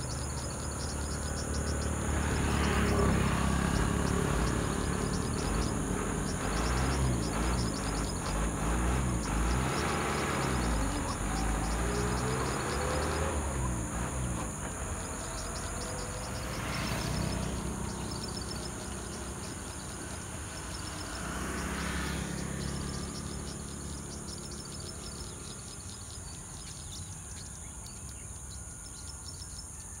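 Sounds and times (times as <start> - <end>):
distant road traffic rumble: 0.0 - 30.0
high-pitched insect drone: 0.0 - 30.0.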